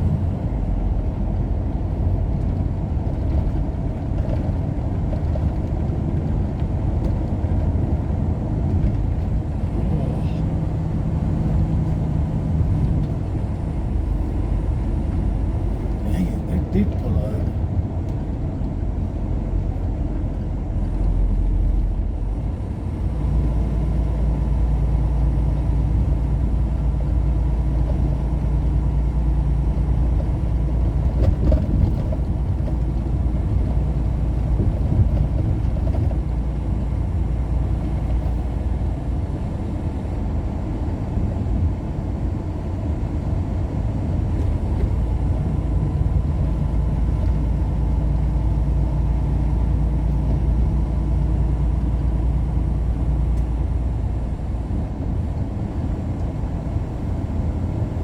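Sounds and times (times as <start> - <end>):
vehicle driving on road: 0.0 - 58.0.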